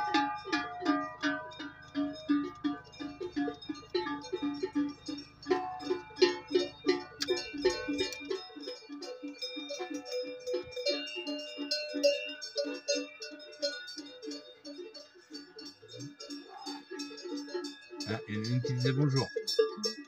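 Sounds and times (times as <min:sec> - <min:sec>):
cowbells clanking: 0:00.0 - 0:20.0.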